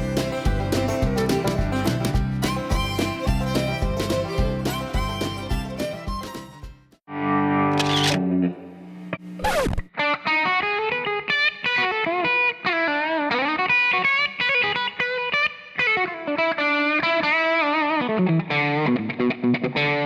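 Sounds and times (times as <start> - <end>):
overdriven electric guitar lead: 0.0 - 6.4, 7.1 - 20.0.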